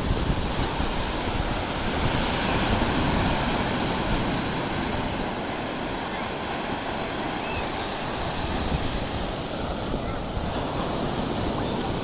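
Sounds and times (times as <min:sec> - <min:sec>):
ocean surf rushing: 0:00.0 - 0:12.0
wind rumble on microphone: 0:00.0 - 0:12.0.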